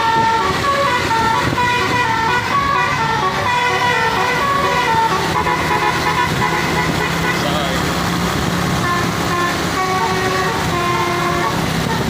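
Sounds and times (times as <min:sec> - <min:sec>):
musical air horn tune: 0:00.0 - 0:07.6, 0:08.8 - 0:12.0.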